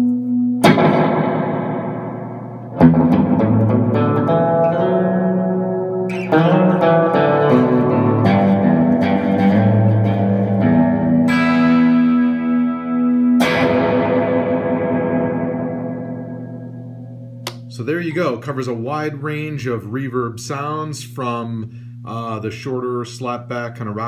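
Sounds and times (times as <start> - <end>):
electric guitar with reverb: 0.0 - 24.0.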